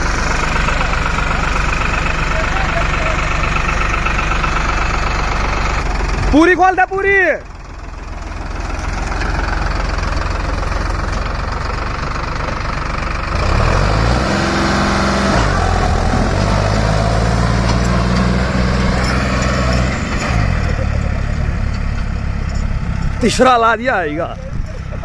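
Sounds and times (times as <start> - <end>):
tractor diesel engine at full throttle: 0.0 - 25.0.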